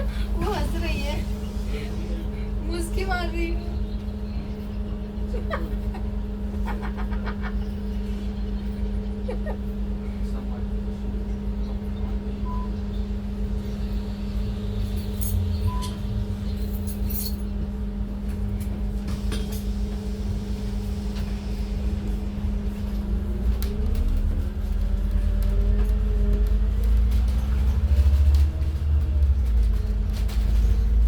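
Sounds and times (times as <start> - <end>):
bus engine accelerating: 0.0 - 31.0.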